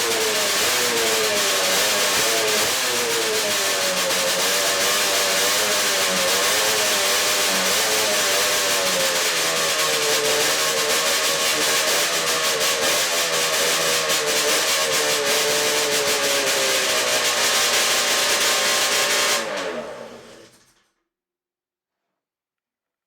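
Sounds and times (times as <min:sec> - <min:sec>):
snowmobile engine running: 0:00.0 - 0:20.3.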